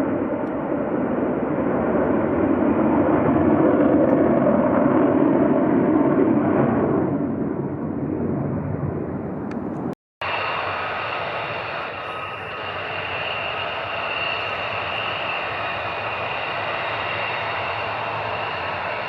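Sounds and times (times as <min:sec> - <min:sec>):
fighter jet engine roar: 0:00.0 - 0:19.0.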